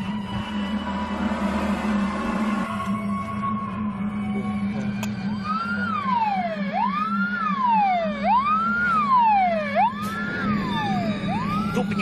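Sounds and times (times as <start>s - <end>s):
ambulance siren wailing: 0.0s - 12.0s.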